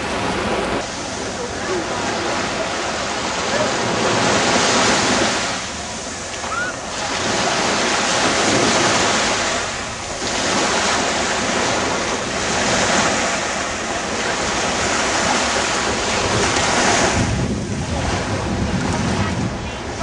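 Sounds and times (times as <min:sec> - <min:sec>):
small waves breaking on sand: 0:00.0 - 0:20.0
wind buffeting microphone: 0:00.0 - 0:20.0.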